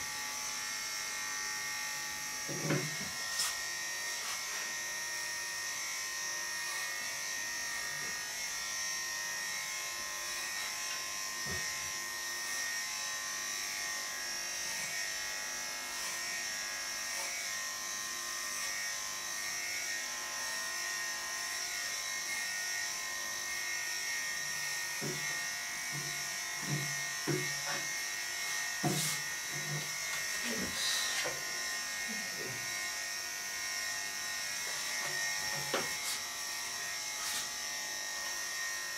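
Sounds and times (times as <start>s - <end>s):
electric clippers humming: 0.0s - 38.9s.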